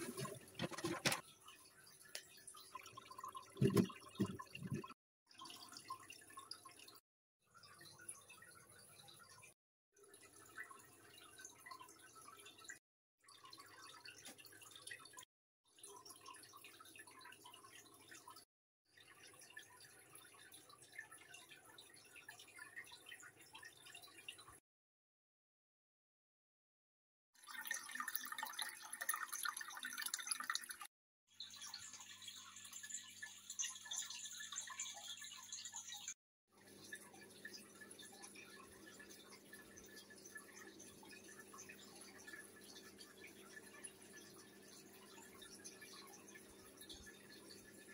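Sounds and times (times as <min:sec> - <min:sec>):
aquarium bubbles fizzing: 0:00.0 - 0:24.6, 0:27.4 - 0:47.9.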